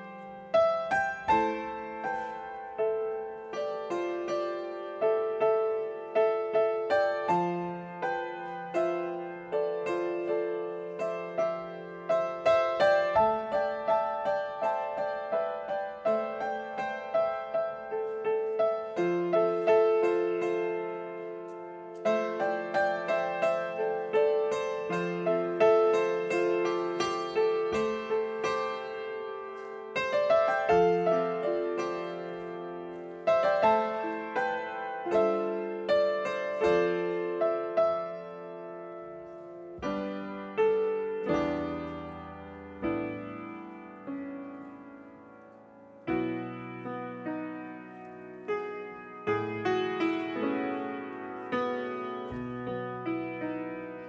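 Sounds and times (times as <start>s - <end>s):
slow solo piano music: 0.0s - 54.0s.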